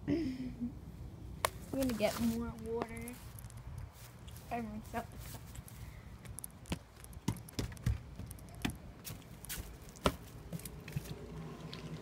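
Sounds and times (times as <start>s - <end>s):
footsteps: 1.5s - 11.9s.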